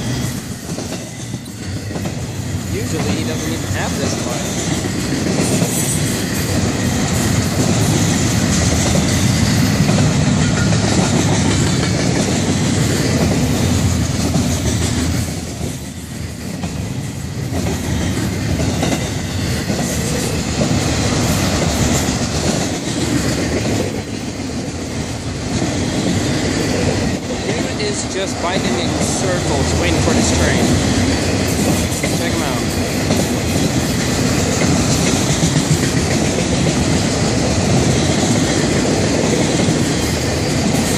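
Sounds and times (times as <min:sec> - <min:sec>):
freight train cars rolling past: 0:00.0 - 0:40.9.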